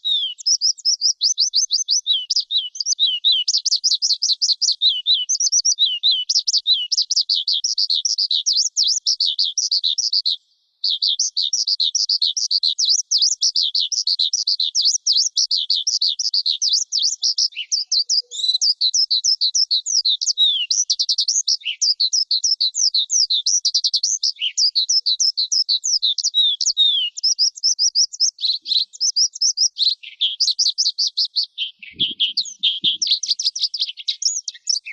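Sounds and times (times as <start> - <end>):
skylark singing: 0.0 - 34.9.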